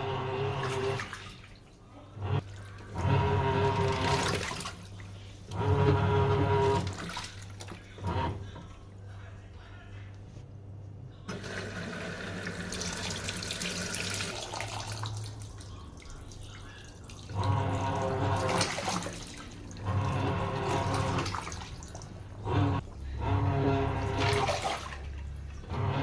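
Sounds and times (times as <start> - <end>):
water running into tub: 0.0 - 8.6, 11.3 - 26.0
washing machine: 0.0 - 9.4, 10.3 - 26.0
loud mechanical hum: 1.8 - 26.0.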